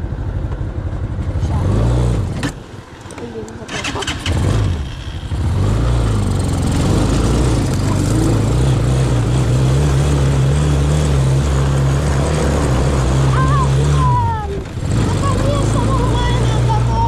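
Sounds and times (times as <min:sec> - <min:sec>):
off-road vehicle engine revving: 0:01.2 - 0:17.0.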